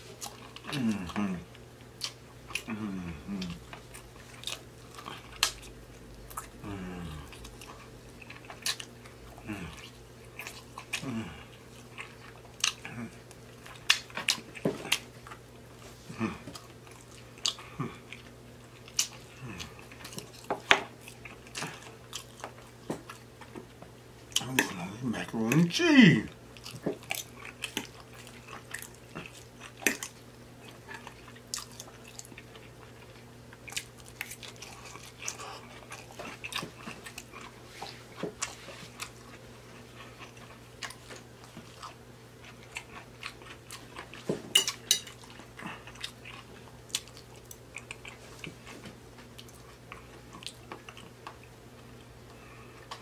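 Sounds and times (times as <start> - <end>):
faint low hum: 0.0 - 53.0
man chewing food: 0.0 - 53.0.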